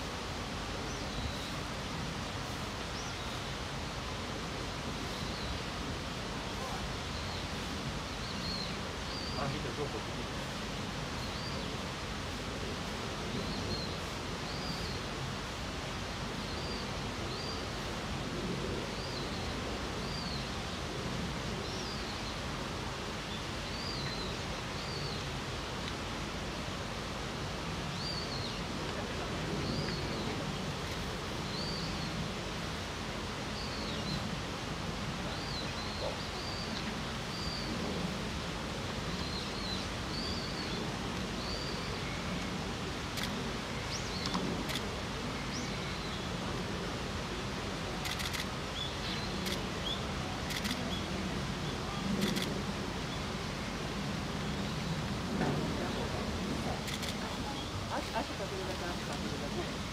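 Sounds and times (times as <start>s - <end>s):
outdoor background hiss: 0.0s - 59.9s.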